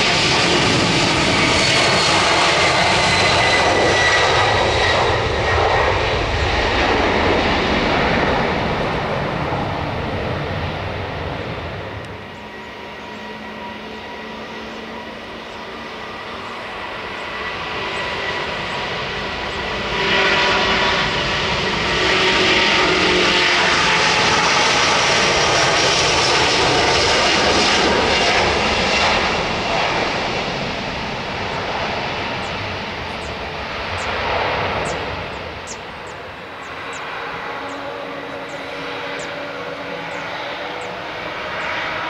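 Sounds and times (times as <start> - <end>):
jet engines at takeoff thrust: 0.0 - 42.0.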